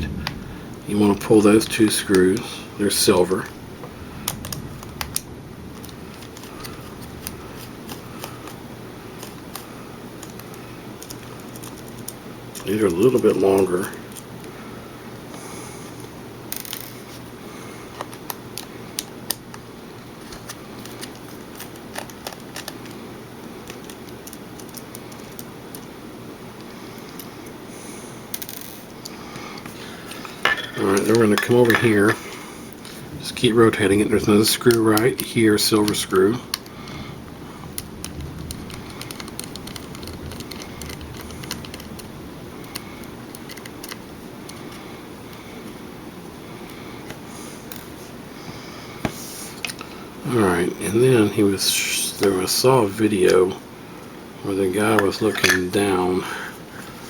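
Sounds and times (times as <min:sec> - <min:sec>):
low background noise: 0:00.0 - 0:57.0
steady low hum: 0:00.0 - 0:57.0.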